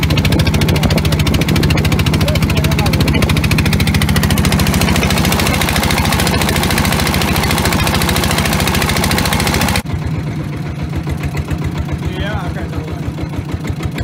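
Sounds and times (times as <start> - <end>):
boat diesel engine chugging: 0.0 - 14.0.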